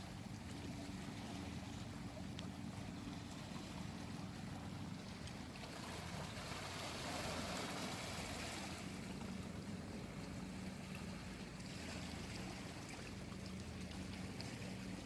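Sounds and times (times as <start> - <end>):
low steady hum: 0.0 - 15.0
water washing against shore: 0.0 - 15.0.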